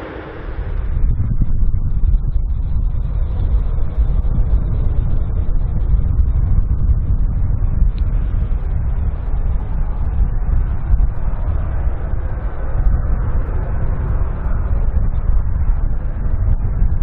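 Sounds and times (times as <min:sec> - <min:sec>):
jet airliner rumble: 0:00.0 - 0:17.0.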